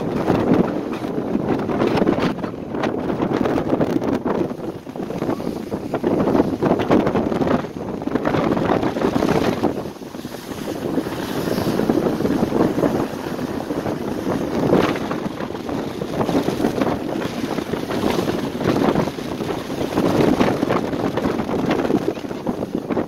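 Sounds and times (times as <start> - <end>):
gusty wind on microphone: 0.0 - 23.0
rough sea rushing: 0.0 - 23.0.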